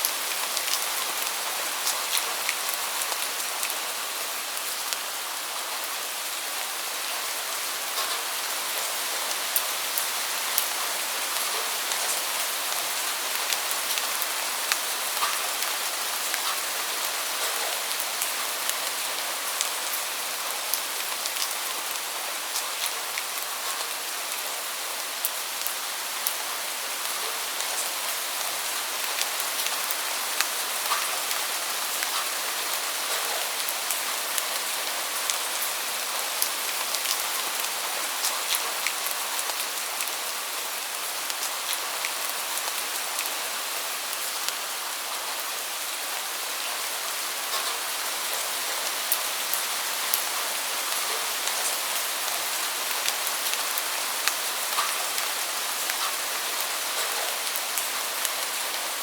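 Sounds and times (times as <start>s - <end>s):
raindrops ticking on a surface: 0.0s - 59.0s
steady rain falling: 0.0s - 59.0s.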